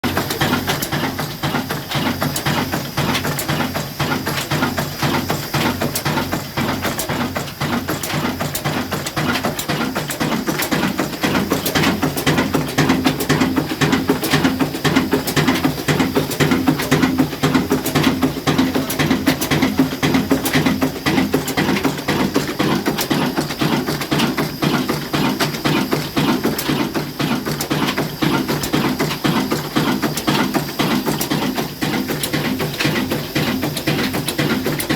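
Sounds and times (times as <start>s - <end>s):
diesel engine knocking: 0.0s - 34.9s.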